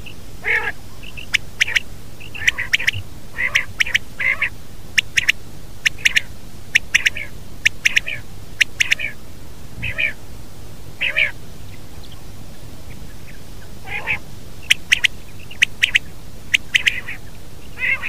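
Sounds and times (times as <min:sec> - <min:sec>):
quail calling: 0:00.0 - 0:09.2, 0:09.8 - 0:10.2, 0:11.0 - 0:12.3, 0:12.9 - 0:18.0.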